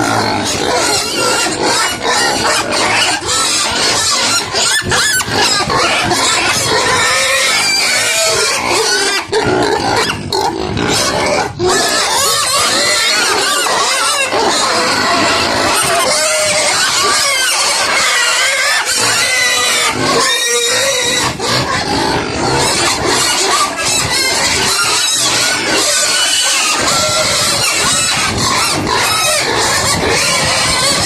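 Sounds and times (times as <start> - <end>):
pigs squealing and grunting: 0.0 - 31.0.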